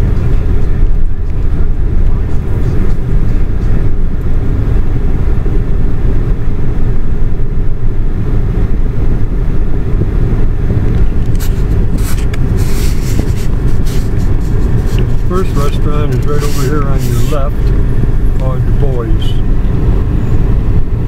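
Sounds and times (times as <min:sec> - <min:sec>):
road and engine rumble: 0:00.0 - 0:21.0.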